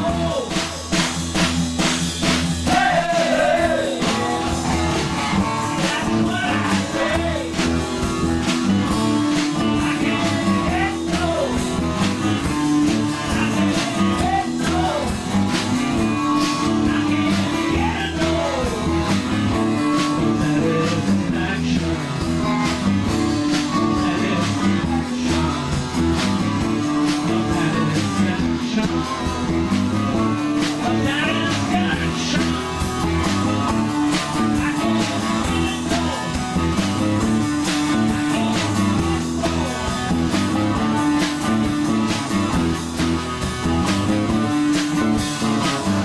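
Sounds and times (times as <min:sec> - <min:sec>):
drum beat: 0:00.0 - 0:46.0
electric guitars playing rock blues: 0:00.0 - 0:46.0.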